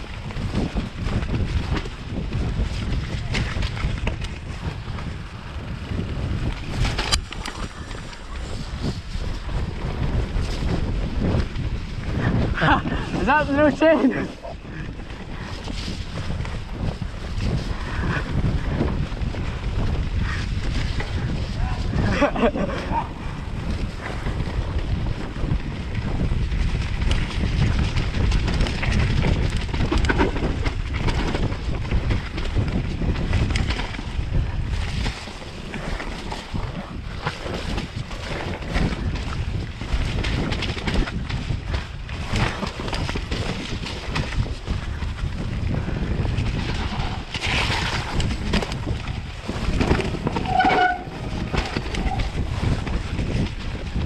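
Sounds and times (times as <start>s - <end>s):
tyres rumbling on dirt: 0.0s - 54.0s
wind rushing over microphone: 0.0s - 54.0s.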